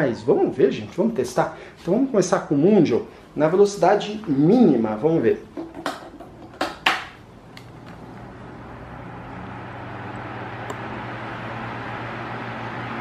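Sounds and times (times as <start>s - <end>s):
fan motor hum: 0.0s - 13.0s.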